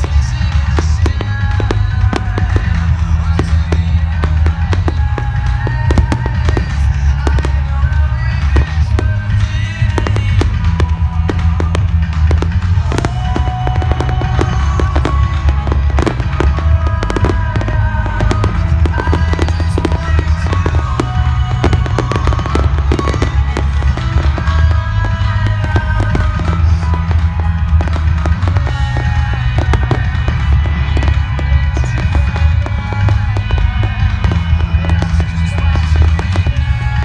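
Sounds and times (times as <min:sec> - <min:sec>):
fireworks bangs and crackles: 0:00.0 - 0:37.0
music with heavy bass: 0:00.0 - 0:37.0.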